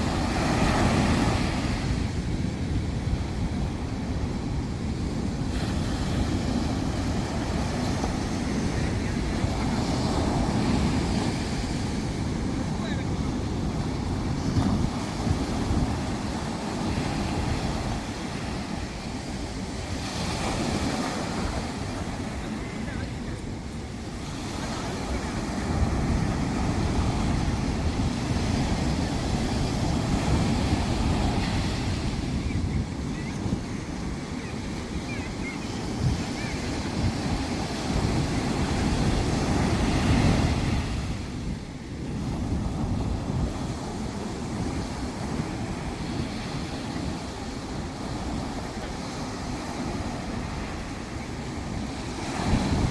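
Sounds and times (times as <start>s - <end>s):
ocean surf on sandy beach: 0.0s - 52.9s
wave washing up sand: 0.0s - 52.9s
wind buffeting microphone: 0.0s - 52.9s.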